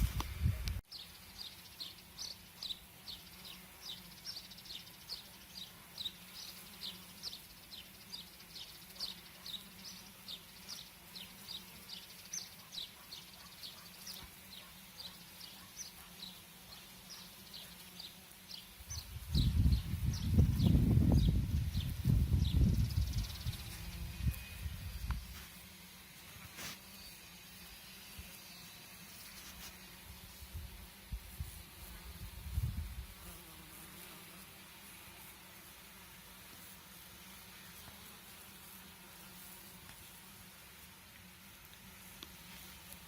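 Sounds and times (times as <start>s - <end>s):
faint low hum of bees: 0.0s - 43.0s.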